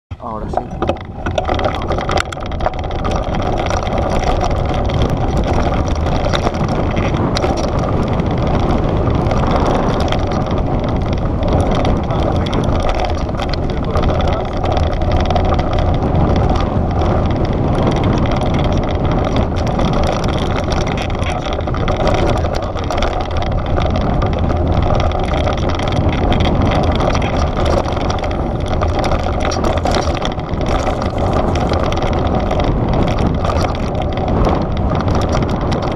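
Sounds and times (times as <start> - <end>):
bike rattling: 0.1 - 35.9
wind on microphone: 0.1 - 35.9
tyres crunching over gravel: 0.3 - 35.9.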